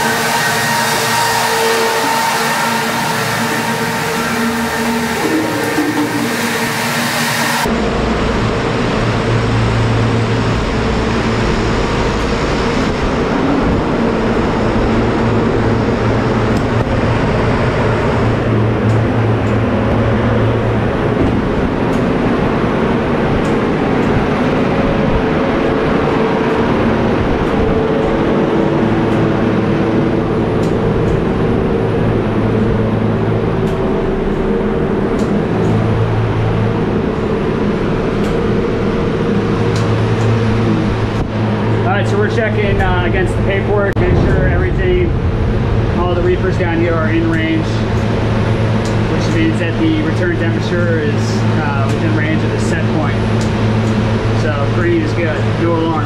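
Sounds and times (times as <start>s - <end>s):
refrigerated container units humming: 0.0s - 56.0s.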